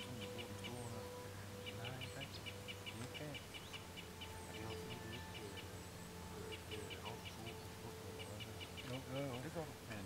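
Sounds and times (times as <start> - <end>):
birds chirping: 0.0 - 10.0
faint steady hum: 0.0 - 10.0
thin high bird calls: 0.0 - 10.0.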